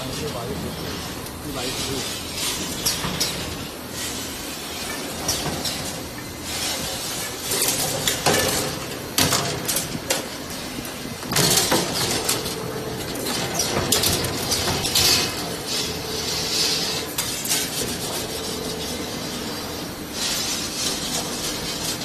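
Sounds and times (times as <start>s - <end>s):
faint machine hum: 0.0s - 22.0s.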